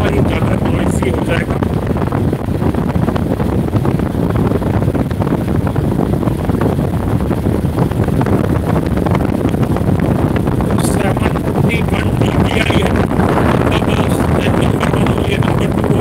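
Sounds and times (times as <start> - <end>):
table fan wind noise: 0.0 - 16.0.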